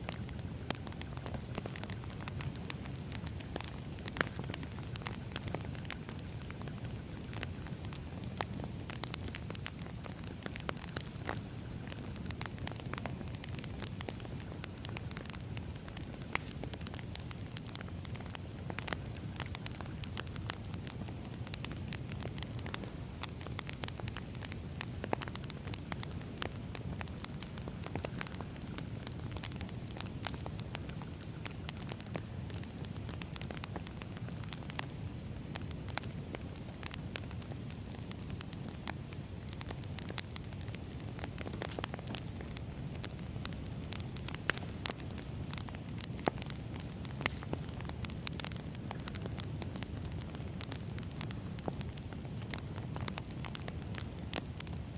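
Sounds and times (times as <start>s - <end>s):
fire low rumble: 0.0s - 54.9s
wood fire crackling and popping: 0.0s - 54.9s.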